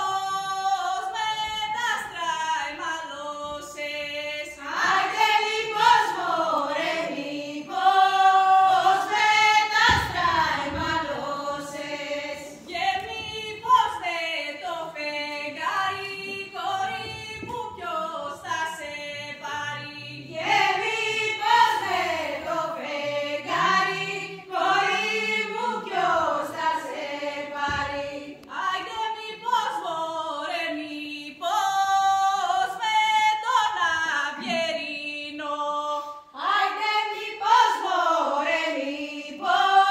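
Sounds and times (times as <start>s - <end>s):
group singing folk song: 0.0s - 39.9s.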